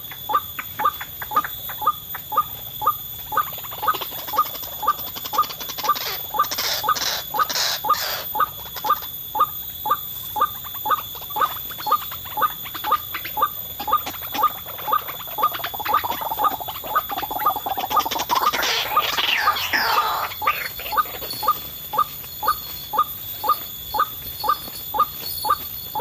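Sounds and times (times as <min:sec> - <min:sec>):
bird sharp repeated call: 0:00.3 - 0:26.0.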